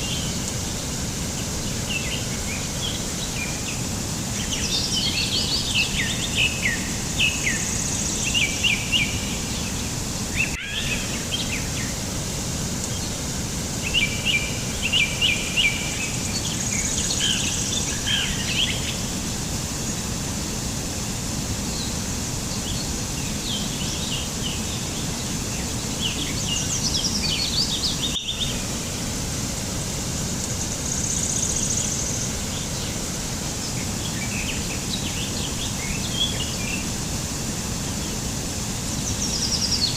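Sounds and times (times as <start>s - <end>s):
small birds chirping: 0.0s - 20.1s, 21.6s - 39.9s
steady outdoor hiss: 0.0s - 39.9s.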